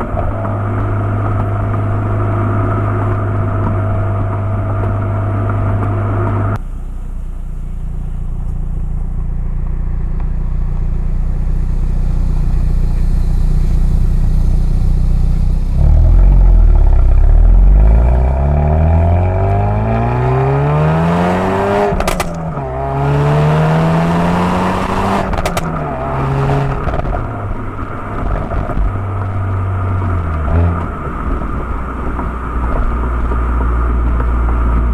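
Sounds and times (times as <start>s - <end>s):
car exhaust accelerating: 0.0s - 34.9s
exhaust cracks on gear changes: 0.0s - 34.9s.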